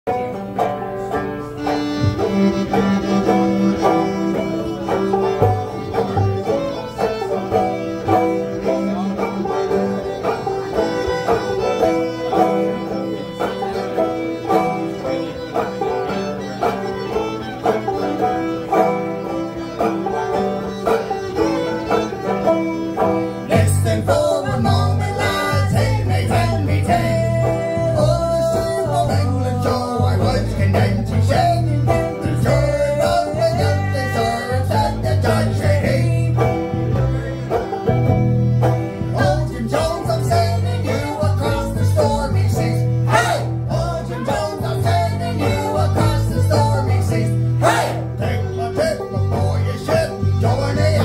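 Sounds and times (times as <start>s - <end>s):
banjo picking: 0.0s - 51.0s
bass: 0.0s - 51.0s
fiddle melody: 0.0s - 51.0s.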